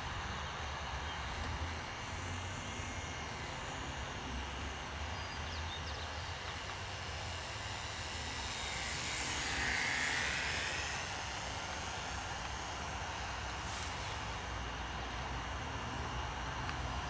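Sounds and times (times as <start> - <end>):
model airplane motor: 0.0 - 17.0.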